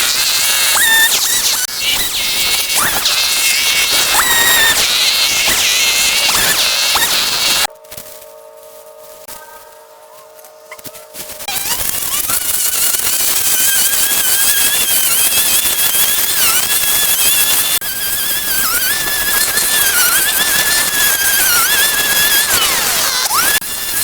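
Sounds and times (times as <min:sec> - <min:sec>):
high-speed motor whining: 0:00.0 - 0:07.7, 0:11.4 - 0:24.0.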